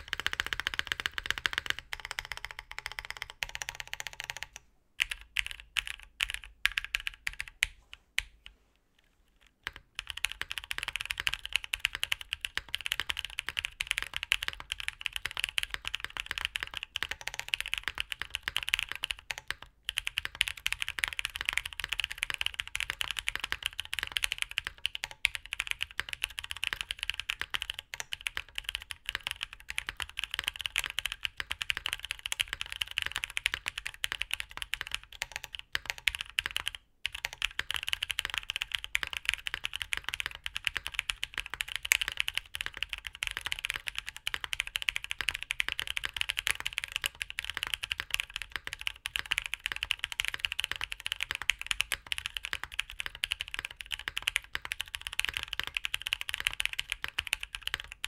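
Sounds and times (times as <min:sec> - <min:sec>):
mechanical keyboard typing: 0:00.0 - 0:07.7, 0:09.6 - 0:58.0.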